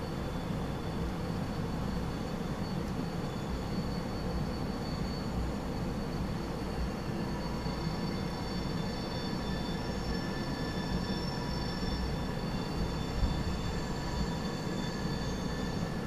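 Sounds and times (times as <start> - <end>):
high wheel squeal: 0.0 - 16.0
train rumbling: 0.0 - 16.0.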